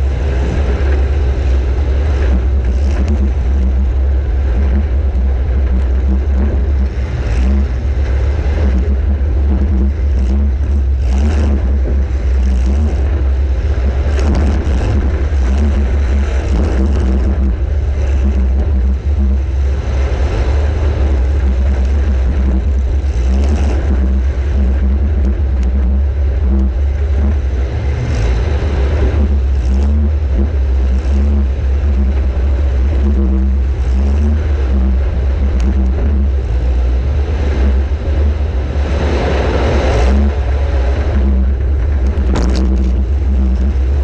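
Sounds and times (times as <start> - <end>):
car engine running hard: 0.0 - 44.0.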